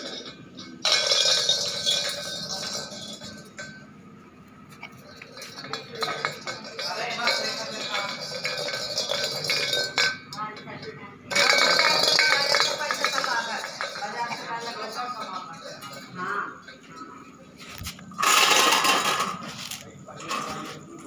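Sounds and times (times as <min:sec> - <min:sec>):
metal pot clanking on concrete: 0:00.0 - 0:04.0, 0:04.8 - 0:20.6.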